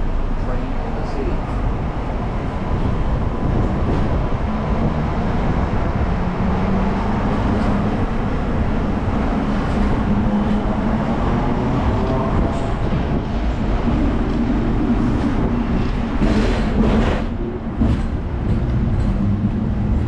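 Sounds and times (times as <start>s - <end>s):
tram wheels rumbling on rails: 0.0s - 20.0s
tram motor hum rising in pitch: 1.4s - 20.0s.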